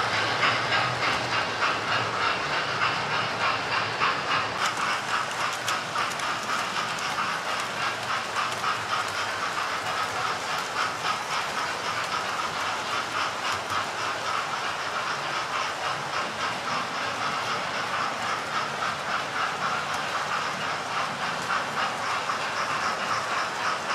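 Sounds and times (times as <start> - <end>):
model trains whirring: 0.0 - 23.9
wheels clicking over rail joints: 0.0 - 23.9.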